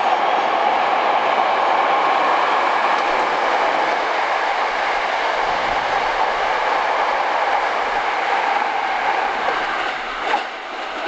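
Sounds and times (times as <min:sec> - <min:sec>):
deep train rumble: 0:00.0 - 0:11.0
train wheels rushing on rails: 0:00.0 - 0:11.0.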